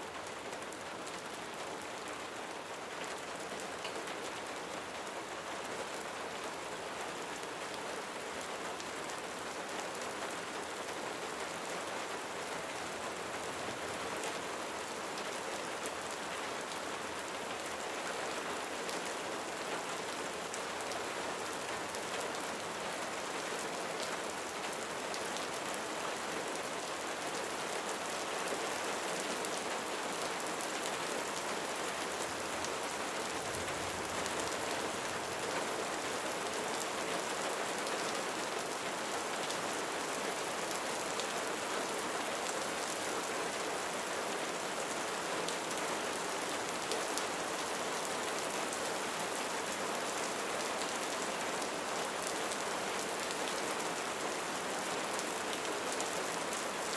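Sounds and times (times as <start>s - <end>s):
rain on a roof: 0.0s - 56.9s.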